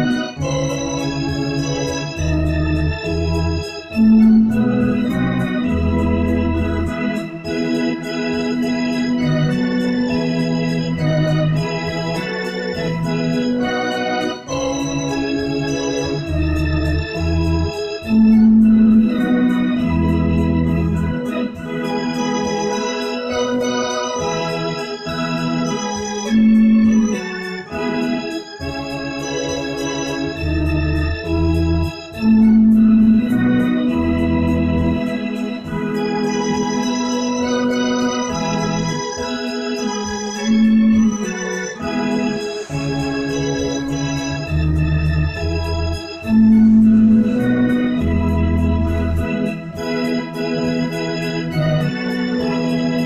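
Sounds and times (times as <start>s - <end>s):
electronic organ chords: 0.0s - 53.0s.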